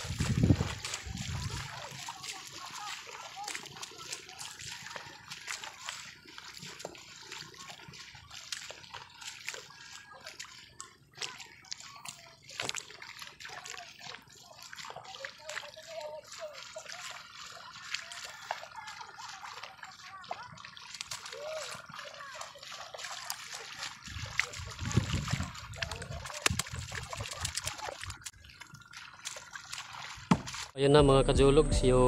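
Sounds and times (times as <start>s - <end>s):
feet splashing through water: 0.0s - 30.8s.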